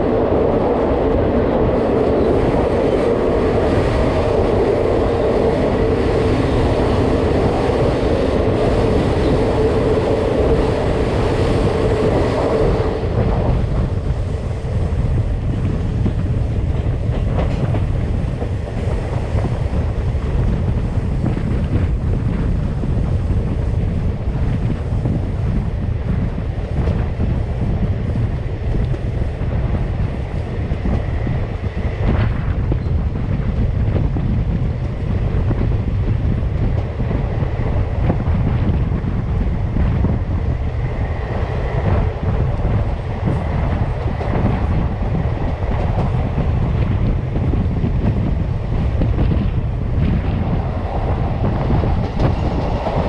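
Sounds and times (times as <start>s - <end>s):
train rumbling on track: 0.0s - 53.0s
wind buffeting microphone: 0.0s - 53.0s.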